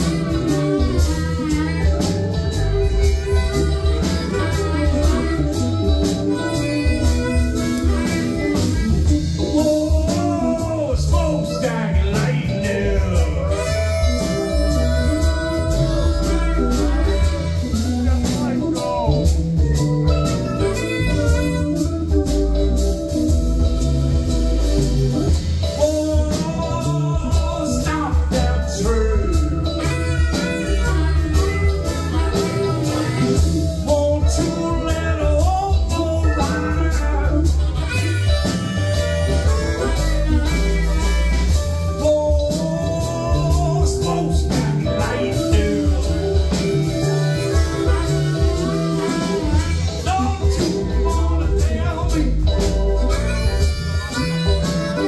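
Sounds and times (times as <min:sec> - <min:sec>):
bass guitar: 0:00.0 - 0:55.0
blues-rock band playing: 0:00.0 - 0:55.0
drums: 0:00.0 - 0:55.0
electric guitar: 0:00.0 - 0:55.0
harmonica: 0:00.0 - 0:55.0
keyboards: 0:00.0 - 0:55.0
man singing: 0:00.0 - 0:55.0.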